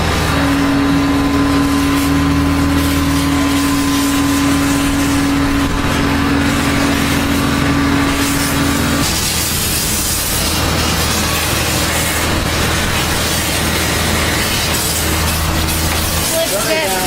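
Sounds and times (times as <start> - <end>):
mechanical drone: 0.0 - 17.0
steam hissing: 0.0 - 17.0.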